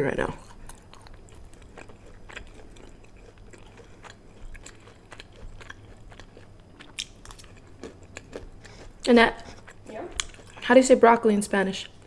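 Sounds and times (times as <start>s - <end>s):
person chewing food: 0.4s - 10.7s.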